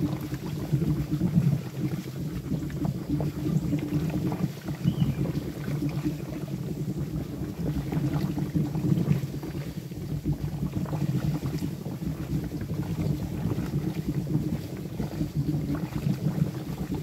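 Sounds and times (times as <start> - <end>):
molten wax boiling and popping: 0.0 - 17.0.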